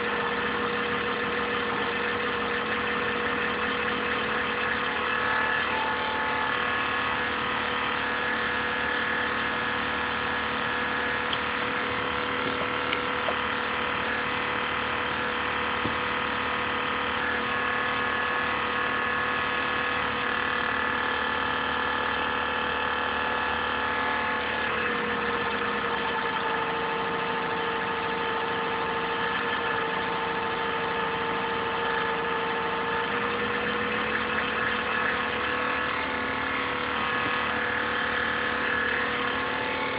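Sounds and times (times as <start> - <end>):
laptop cooling fan whirring: 0.0 - 39.9.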